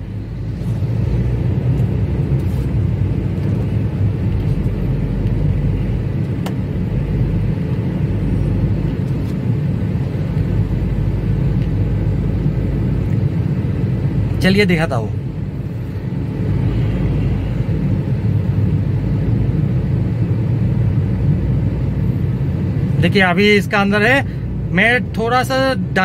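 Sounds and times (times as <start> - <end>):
car engine and tyre rumble: 0.0 - 26.0.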